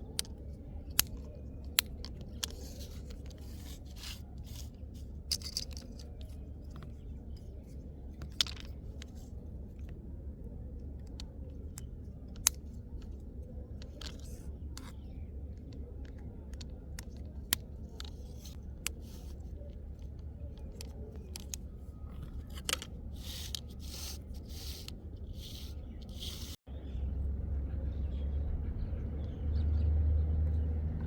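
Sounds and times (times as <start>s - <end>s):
toy and packaging clicks and scrapes: 0.0s - 9.9s, 11.0s - 26.6s.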